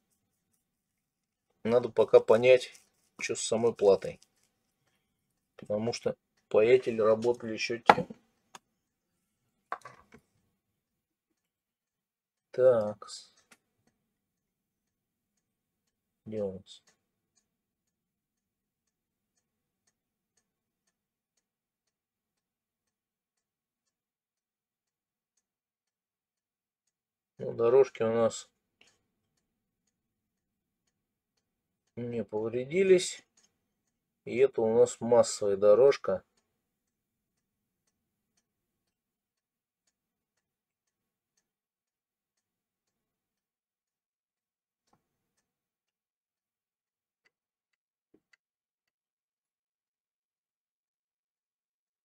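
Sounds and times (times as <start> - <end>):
faint regular ticking: 0.0 - 9.1, 11.2 - 46.4.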